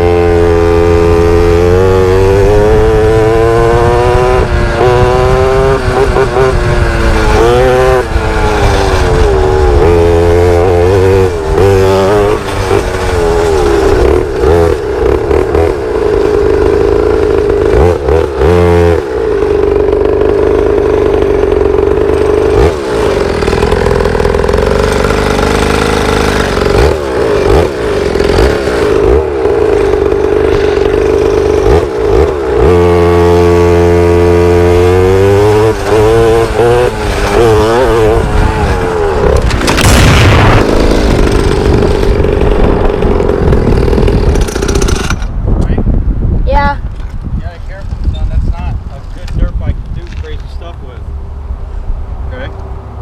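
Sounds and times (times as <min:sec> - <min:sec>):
pit bike engine revving: 0:00.0 - 0:46.9, 0:47.7 - 0:53.0.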